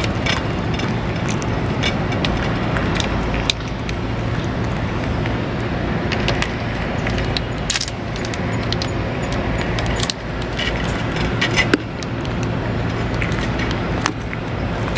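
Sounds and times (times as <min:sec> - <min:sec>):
low background rumble: 0:00.0 - 0:14.9.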